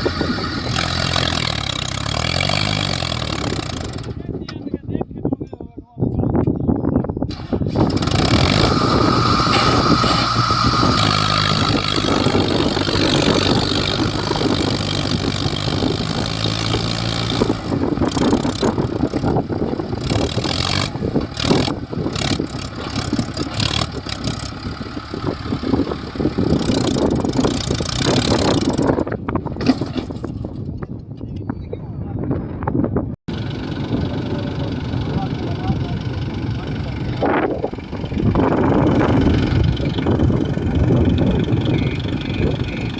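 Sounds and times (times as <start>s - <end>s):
heavy diesel engine running: 0.0s - 4.6s, 7.3s - 30.4s, 33.3s - 42.9s
high engine whine: 0.0s - 4.8s, 7.3s - 30.0s, 33.3s - 42.9s.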